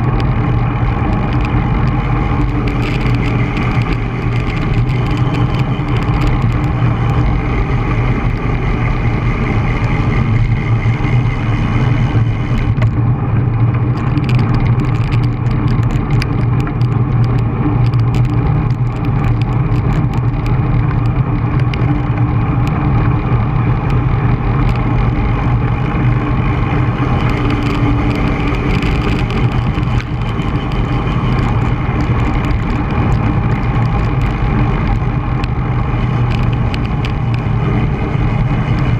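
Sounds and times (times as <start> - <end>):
road knocks and rattles: 0.0 - 38.9
wind rushing over microphone: 0.0 - 38.9.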